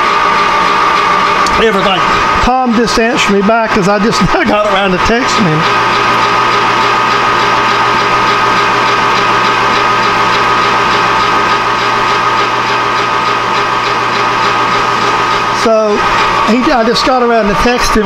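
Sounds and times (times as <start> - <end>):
metal lathe running: 0.0 - 18.0.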